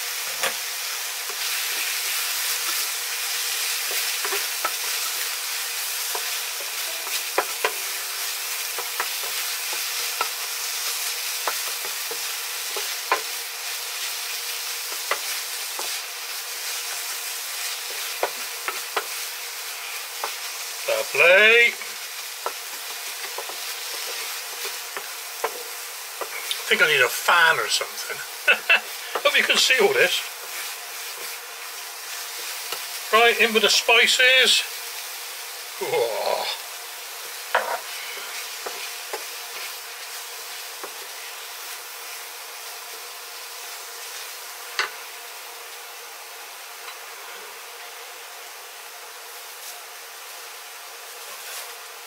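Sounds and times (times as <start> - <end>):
paste sizzling in frying pan: 0.0 - 52.0.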